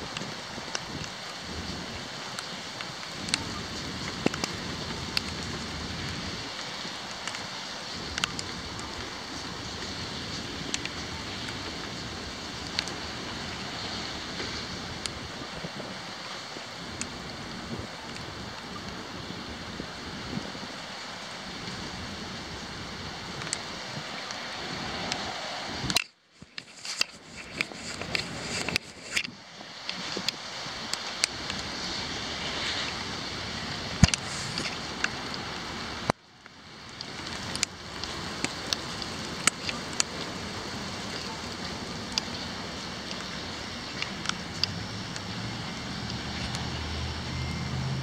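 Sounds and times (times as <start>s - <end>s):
rain hiss: 0.0s - 48.0s.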